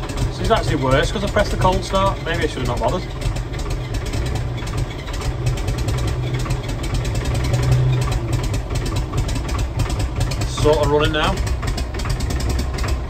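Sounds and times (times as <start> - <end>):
tractor diesel engine running roughly: 0.0 - 13.0.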